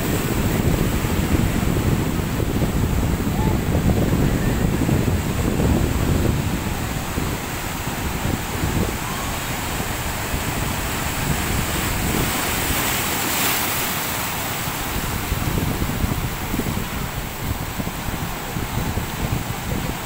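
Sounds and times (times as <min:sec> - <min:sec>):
sea surf breaking: 0:00.0 - 0:20.0
wind buffeting microphone: 0:00.0 - 0:20.0.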